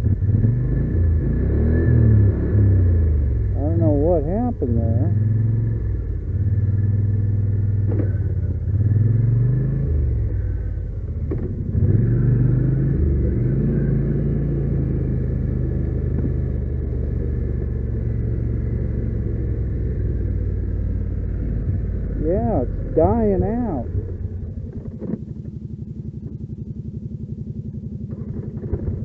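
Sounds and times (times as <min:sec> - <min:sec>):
quad bike engine running: 0:00.0 - 0:29.0.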